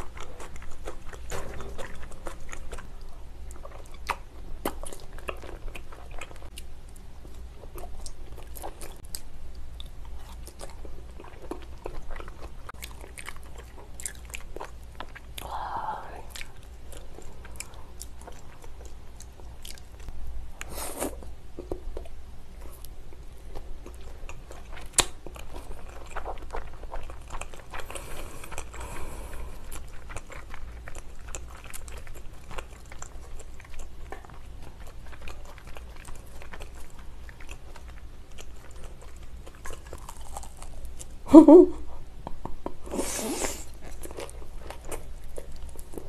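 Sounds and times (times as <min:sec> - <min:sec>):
close wet chewing: 0:00.0 - 0:41.2, 0:42.9 - 0:46.0.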